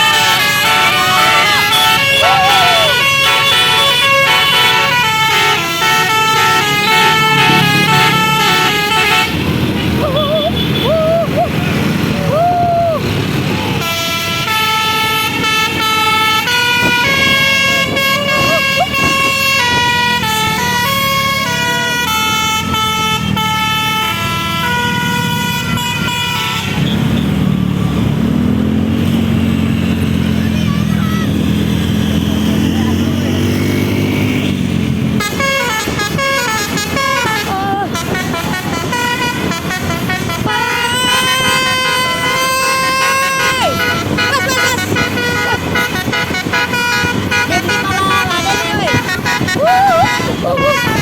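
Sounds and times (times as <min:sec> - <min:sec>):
bus air horn melody: 0:00.0 - 0:10.9, 0:13.7 - 0:27.4, 0:33.6 - 0:51.0
bus engine rumbling: 0:00.0 - 0:51.0.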